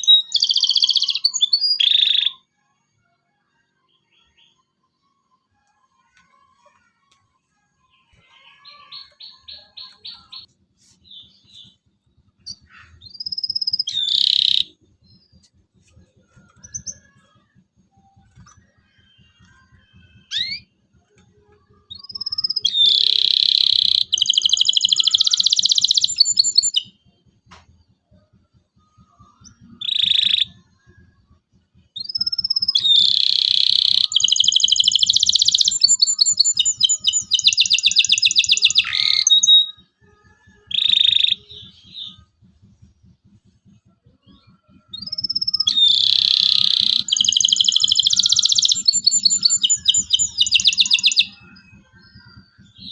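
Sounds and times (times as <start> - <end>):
canary singing: 0.0 - 2.5, 7.8 - 27.2, 29.0 - 30.9, 32.0 - 52.9.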